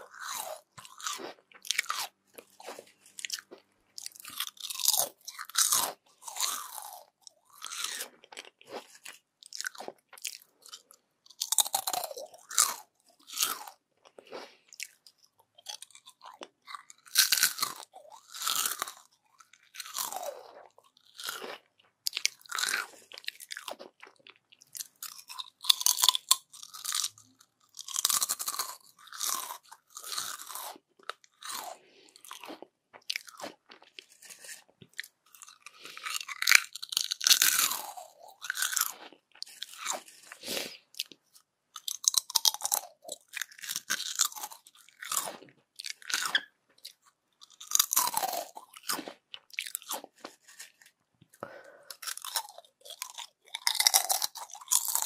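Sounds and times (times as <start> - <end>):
crunchy chips being chewed: 0.0 - 55.0.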